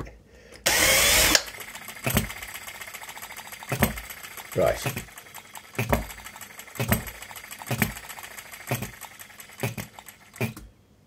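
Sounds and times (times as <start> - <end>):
small petrol engine popping: 0.7 - 10.7
engine mechanical clatter: 0.8 - 10.7.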